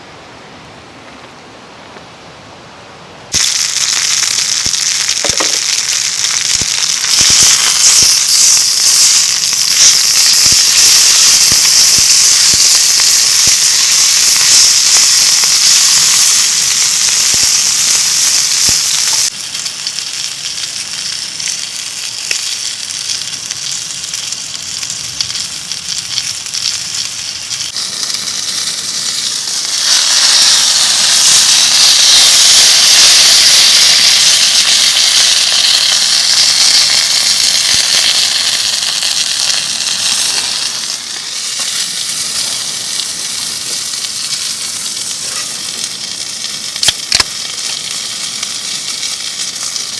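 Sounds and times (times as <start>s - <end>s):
campfire crackling and sizzling: 3.3s - 49.9s.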